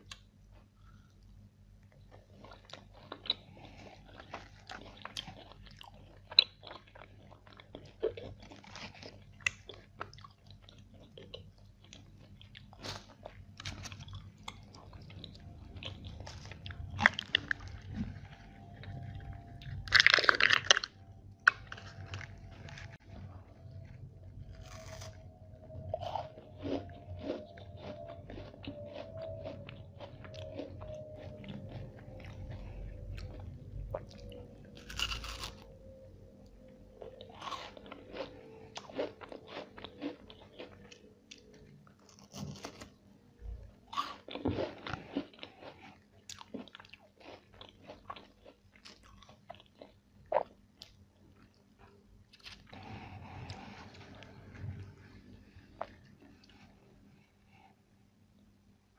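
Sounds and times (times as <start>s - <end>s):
crisp crunching and chewing: 1.9s - 35.7s, 37.0s - 54.9s.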